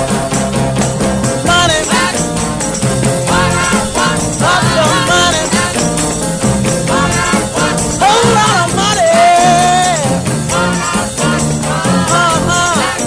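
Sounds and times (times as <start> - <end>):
tambourine jingling: 0.0 - 13.0
soul record singing over beat: 1.3 - 13.0.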